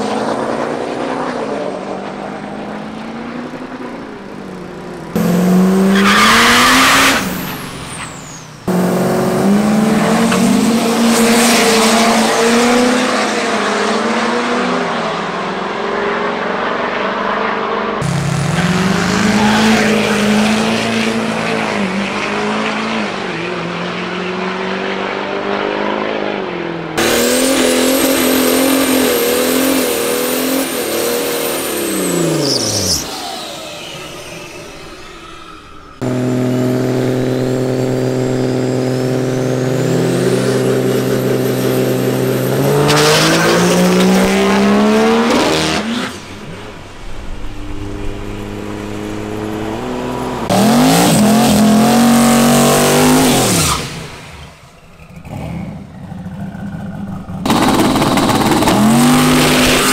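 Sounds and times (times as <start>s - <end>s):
diesel truck engines revving: 0.0s - 59.9s.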